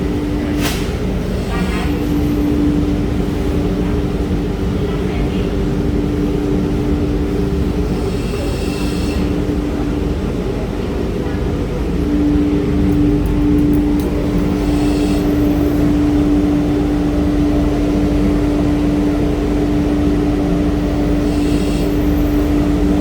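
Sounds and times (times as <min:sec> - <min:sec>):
washing machine humming: 0:00.0 - 0:23.0.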